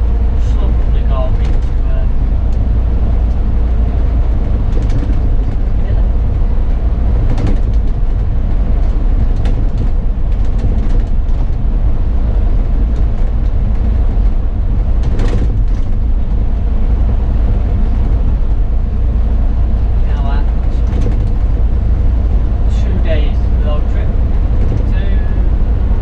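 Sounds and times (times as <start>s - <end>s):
bus engine and road drone: 0.0s - 26.0s
light rattles: 0.0s - 26.0s.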